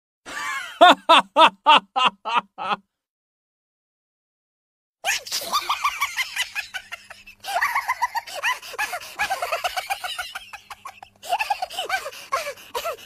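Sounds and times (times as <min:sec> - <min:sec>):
cartoon evil laugh: 0:00.3 - 0:02.8, 0:05.0 - 0:13.0.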